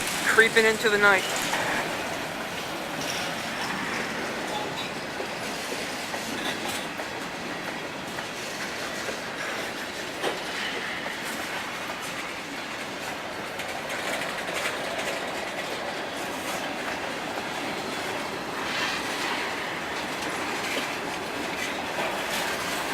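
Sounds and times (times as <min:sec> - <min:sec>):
train wheels rattling on track: 0:00.0 - 0:22.9.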